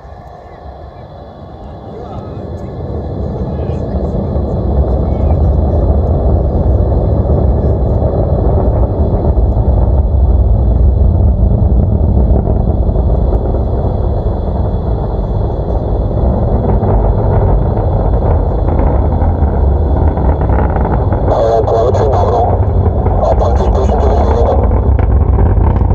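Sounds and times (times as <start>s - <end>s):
rocket engines deep rumble: 0.0s - 25.9s.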